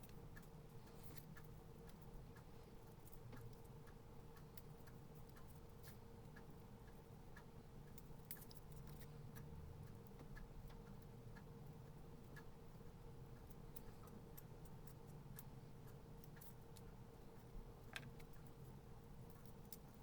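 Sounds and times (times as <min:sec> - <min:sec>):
faint small clicks and ticks: 0:00.0 - 0:20.0
low steady hum: 0:00.0 - 0:20.0.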